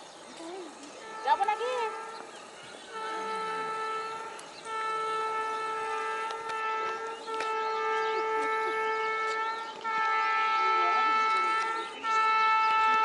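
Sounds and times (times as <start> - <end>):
locomotive air horn blasts: 0.9 - 13.0.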